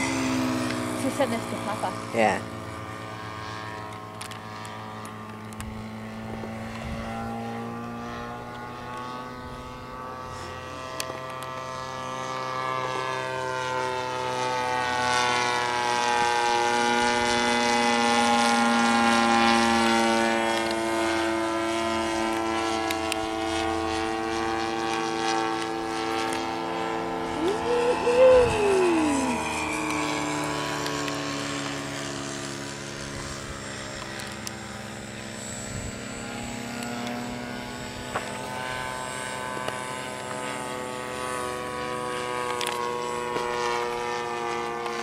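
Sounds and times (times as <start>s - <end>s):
model airplane engine droning: 0.0s - 45.0s.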